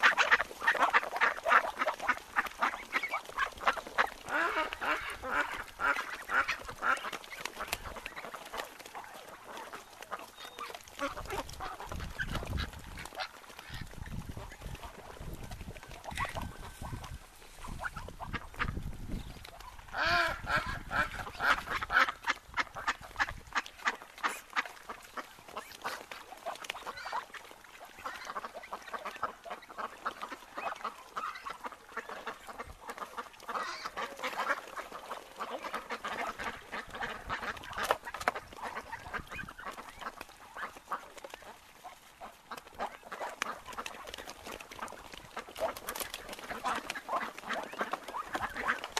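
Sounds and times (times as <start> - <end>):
ducks quacking: 0.0 - 48.9.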